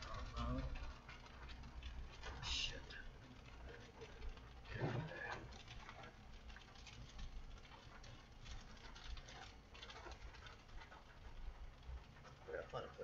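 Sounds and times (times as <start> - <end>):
raindrops ticking on a car: 0.0 - 13.0.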